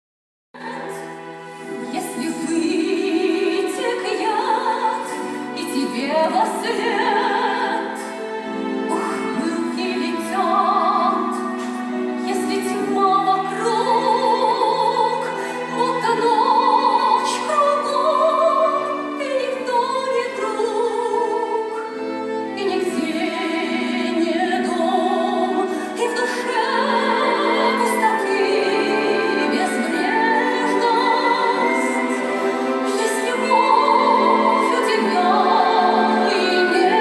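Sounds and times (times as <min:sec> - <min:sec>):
woman singing with wide vibrato: 0:01.9 - 0:08.1, 0:08.9 - 0:37.0.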